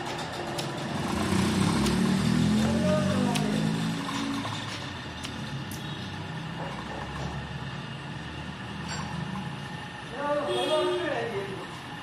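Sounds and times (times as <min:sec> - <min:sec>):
engine rumbling: 0:00.0 - 0:10.4.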